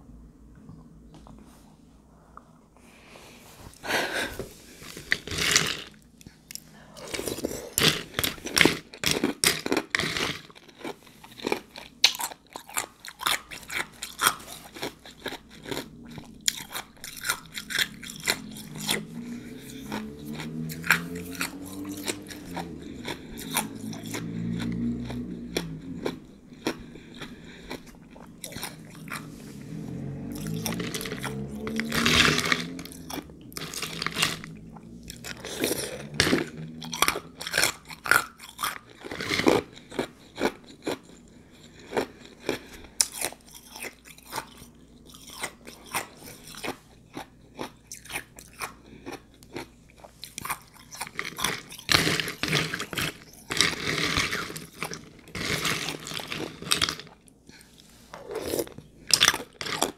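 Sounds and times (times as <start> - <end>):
ice crunching and chewing: 4.8 - 59.9.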